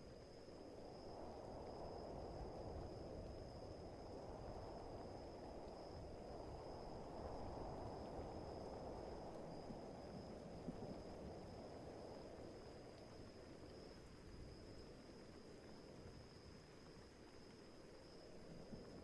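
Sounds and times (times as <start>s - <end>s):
crickets trilling: 0.0s - 19.0s
rain: 0.0s - 19.0s
wind: 0.0s - 19.0s.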